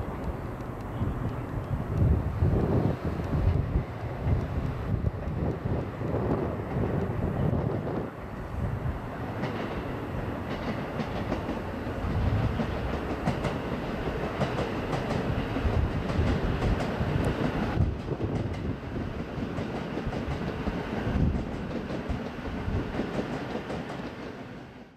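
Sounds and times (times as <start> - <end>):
wheels clicking over rail joints: 0.0 - 8.4, 9.3 - 24.4
electric train running past: 0.0 - 24.9.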